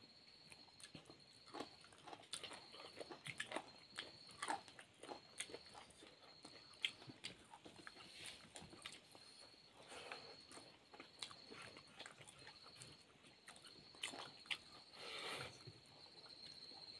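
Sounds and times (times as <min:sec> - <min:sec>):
chewing and lip-smacking: 0:00.4 - 0:16.9.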